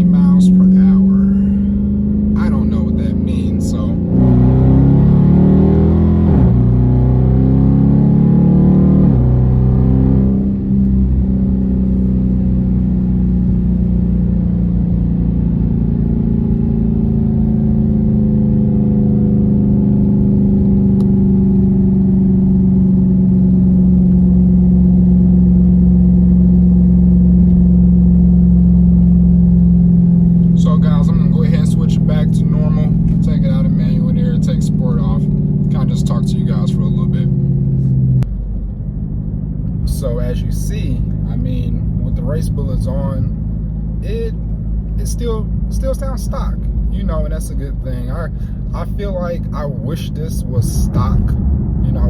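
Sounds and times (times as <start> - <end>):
car engine shifting gears: 0.0 - 52.0.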